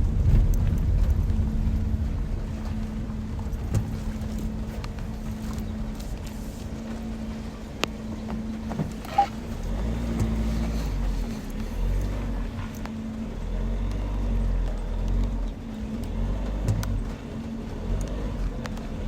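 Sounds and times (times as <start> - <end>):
engine rumble and hum: 0.0 - 19.0.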